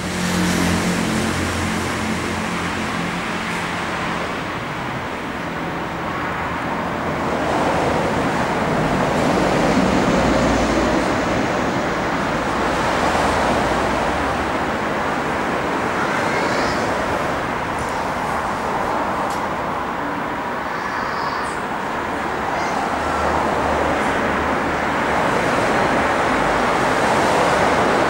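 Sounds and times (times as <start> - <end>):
steady rushing background noise: 0.0 - 28.0.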